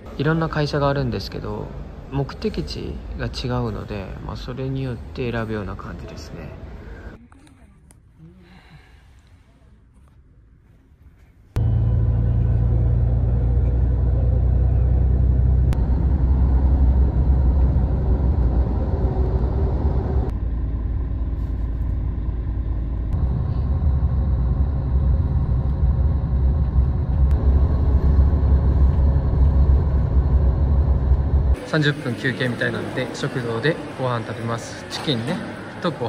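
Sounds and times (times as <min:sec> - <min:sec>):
bus engine and road rumble: 0:00.0 - 0:36.0.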